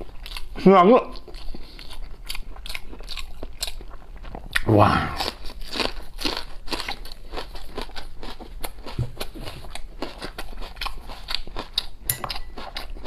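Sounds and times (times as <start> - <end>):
crunchy chewing of green onion: 0.0 - 13.0.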